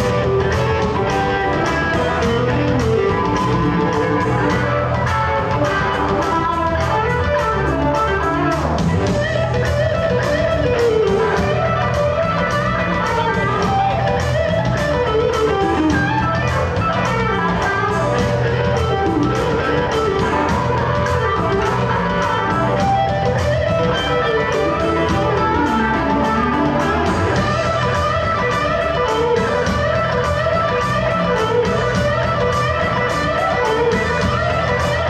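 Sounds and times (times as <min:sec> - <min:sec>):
bass guitar: 0:00.0 - 0:35.0
drums keeping a steady beat: 0:00.0 - 0:35.0
electric guitar lead: 0:00.0 - 0:35.0.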